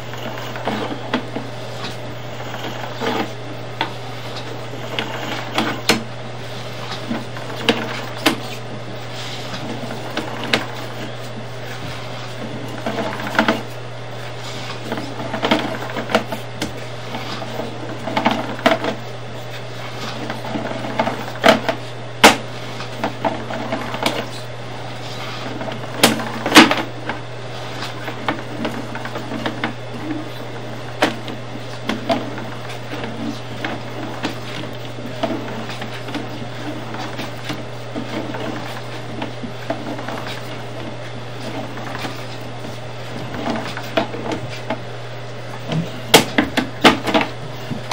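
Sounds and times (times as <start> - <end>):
steady electrical hum: 0.0 - 47.9.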